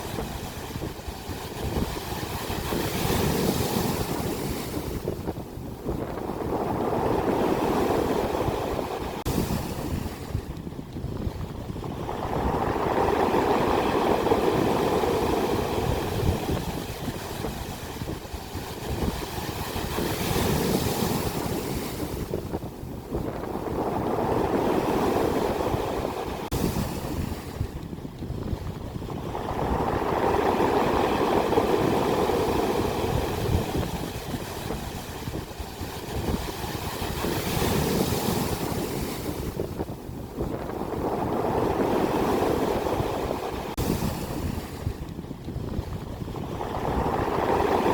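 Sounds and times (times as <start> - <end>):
ocean waves crashing on shore: 0.0 - 47.9.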